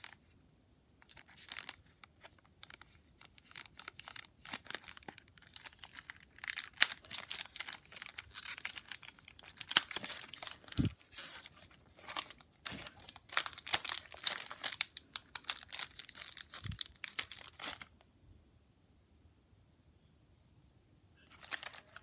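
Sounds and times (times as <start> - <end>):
plastic wrapper crinkling and tearing: 0.0 - 0.3, 1.0 - 18.0, 21.3 - 22.0.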